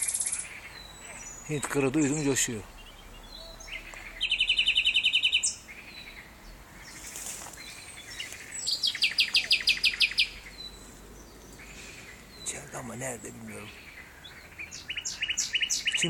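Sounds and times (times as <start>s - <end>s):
nightingale singing: 0.0s - 16.0s.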